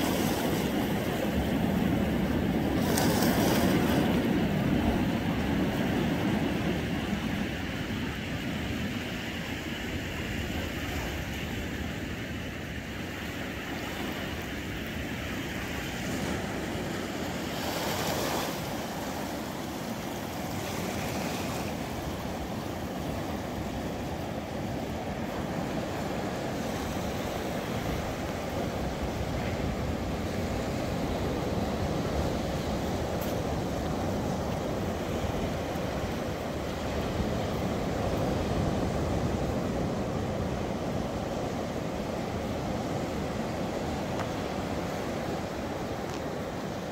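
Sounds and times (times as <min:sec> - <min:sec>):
sea waves washing over rocks: 0:00.0 - 0:46.9.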